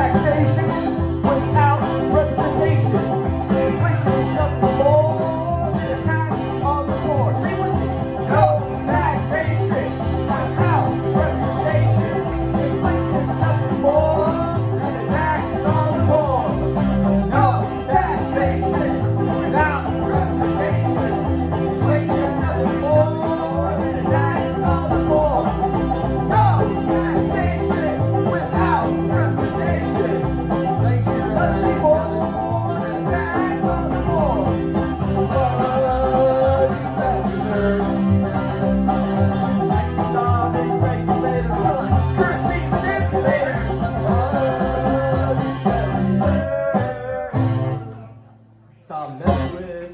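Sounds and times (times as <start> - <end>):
banjo picking a lead: 0.0 - 49.9
upright bass plucking: 0.0 - 49.9.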